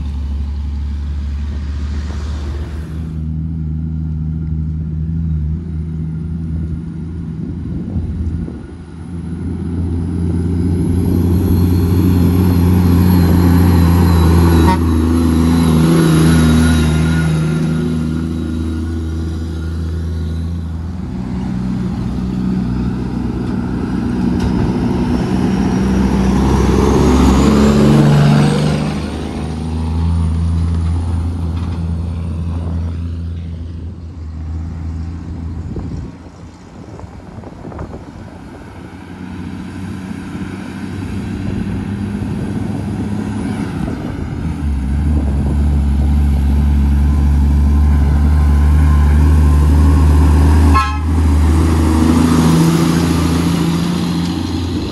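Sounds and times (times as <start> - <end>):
truck diesel engine running: 0.0 - 54.9.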